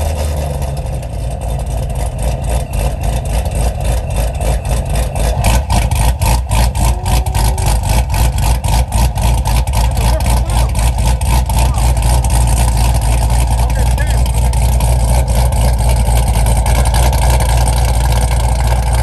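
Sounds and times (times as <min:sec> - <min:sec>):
car engine idling loud: 0:00.0 - 0:19.0.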